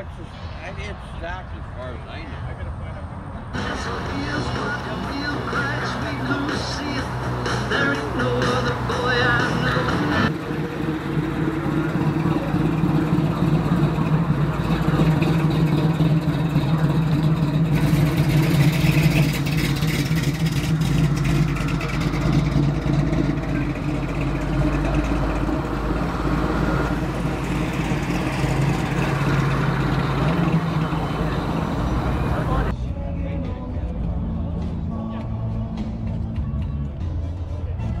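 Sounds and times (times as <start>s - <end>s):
car engines driving slowly past: 0.0s - 38.0s.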